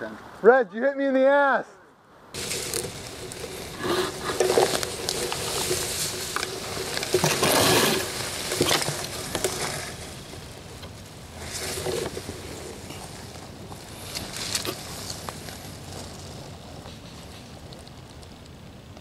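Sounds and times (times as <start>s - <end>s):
leaves rustling against fabric: 2.3s - 19.0s
twigs snapping: 2.4s - 19.0s.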